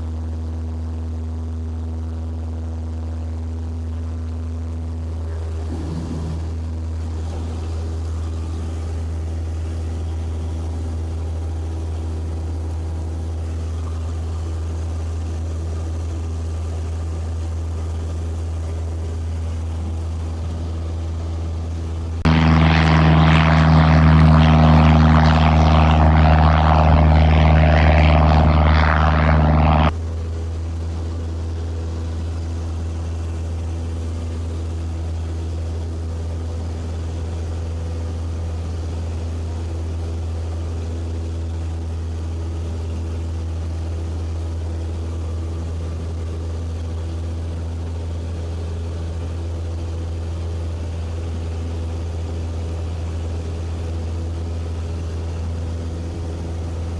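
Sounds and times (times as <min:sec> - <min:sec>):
propeller airplane engine droning: 0:00.0 - 0:56.9.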